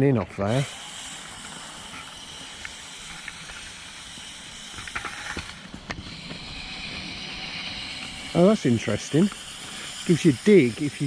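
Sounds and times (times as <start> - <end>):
small electric motors whirring: 0.0 - 11.0.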